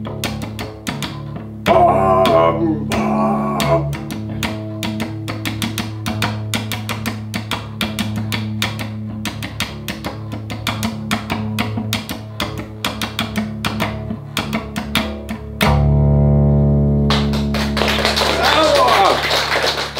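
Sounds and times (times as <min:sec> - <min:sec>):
plucked cello strings: 0:00.0 - 0:17.8.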